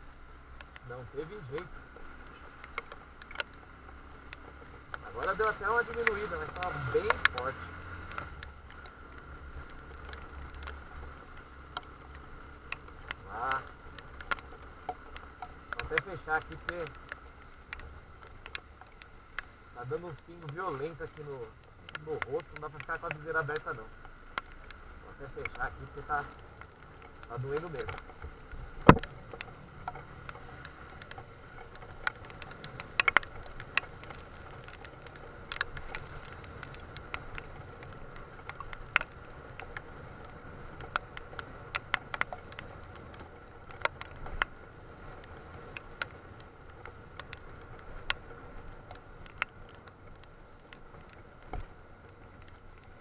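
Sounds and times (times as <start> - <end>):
raindrops tapping on helmet visor: 0.0 - 53.0.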